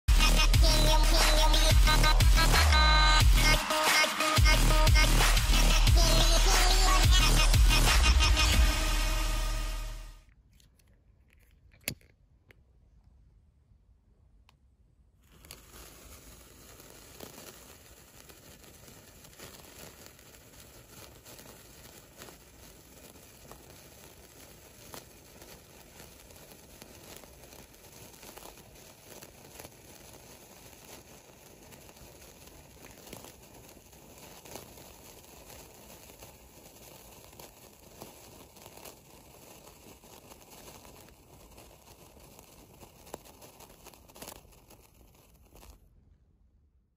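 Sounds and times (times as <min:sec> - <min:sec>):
sparkler crackling: 0:00.1 - 0:10.3, 0:15.2 - 0:45.9.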